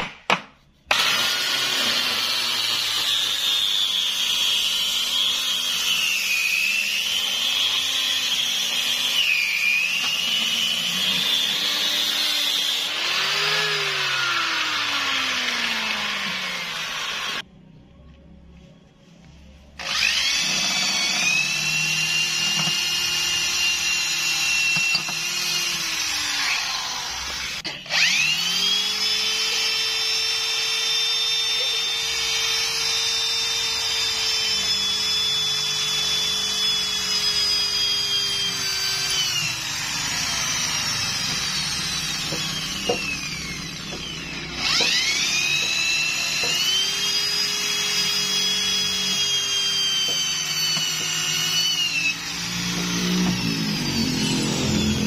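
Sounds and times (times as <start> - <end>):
electric drill motor whining: 0.9 - 17.4, 19.8 - 55.0.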